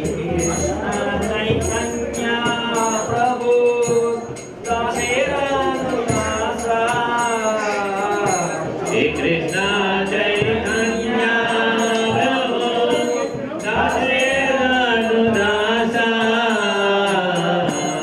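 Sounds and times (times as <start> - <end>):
small hand cymbals clashing: 0.0 - 18.0
voices singing a chant: 0.0 - 18.0.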